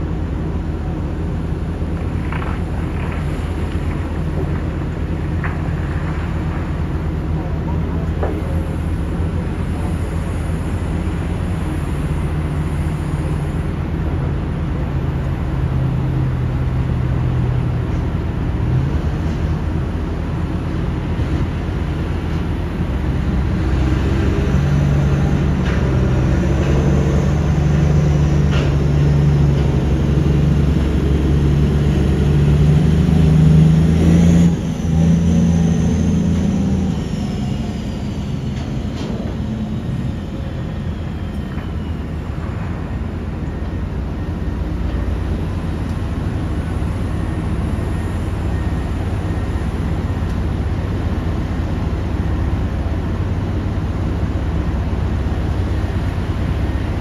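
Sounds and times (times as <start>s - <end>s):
heavy machine drone: 0.0s - 57.0s.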